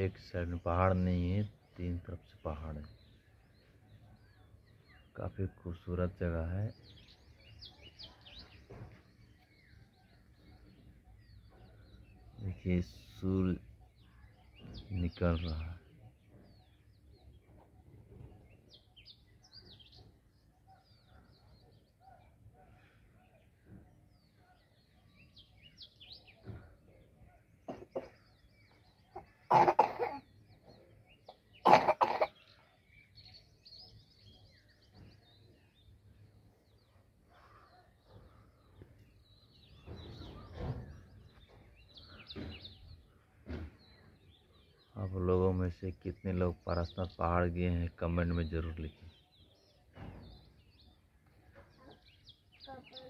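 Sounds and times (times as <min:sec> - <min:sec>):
low outdoor background: 0:00.0 - 0:53.0
songbirds chirping: 0:00.0 - 0:53.0.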